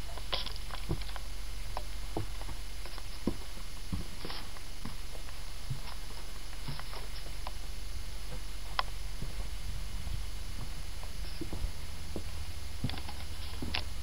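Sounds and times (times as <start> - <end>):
footsteps on rock and grit: 0.0 - 7.6, 8.3 - 14.0
steady low hum: 0.0 - 14.0.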